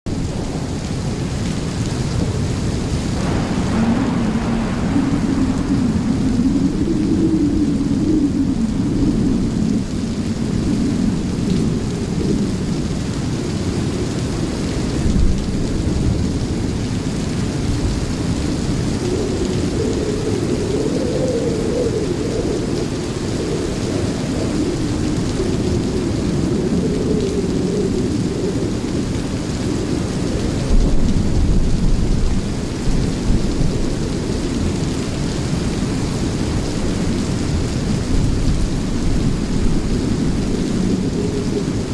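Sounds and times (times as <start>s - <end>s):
low rumble of thunder: 0.1s - 41.9s
steady rain hiss: 0.1s - 41.9s.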